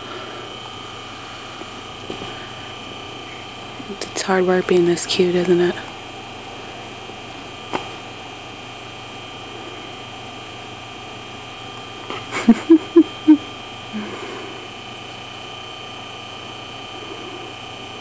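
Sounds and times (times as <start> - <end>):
electric motor hum: 0.0 - 18.0.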